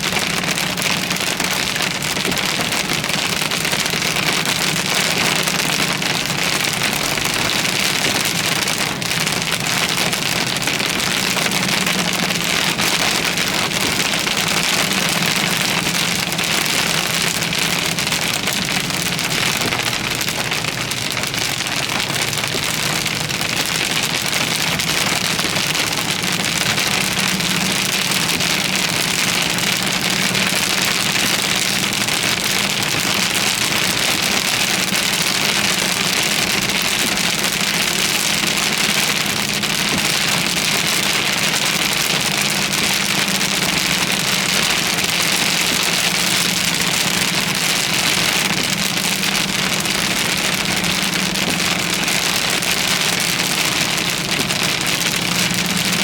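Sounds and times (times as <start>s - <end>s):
heavy rain on a vehicle: 0.0s - 56.0s.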